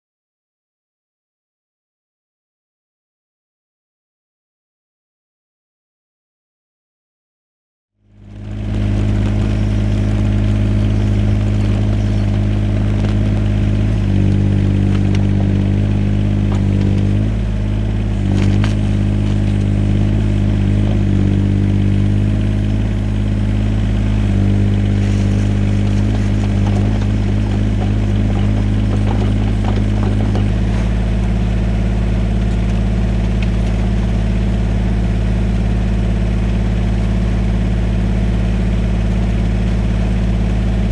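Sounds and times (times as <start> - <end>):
excavator diesel engine running: 8.1 - 40.9.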